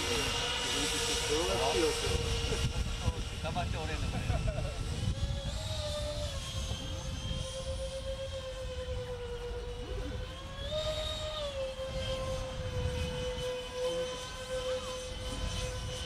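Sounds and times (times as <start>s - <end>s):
electric ducted fan whine: 0.0s - 16.0s.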